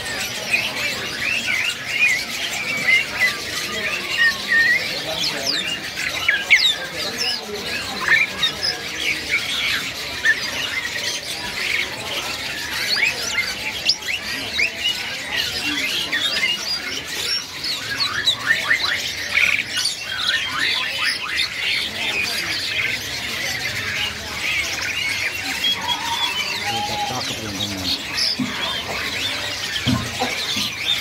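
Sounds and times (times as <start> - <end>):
birds chirping and squawking: 0.0 - 31.0.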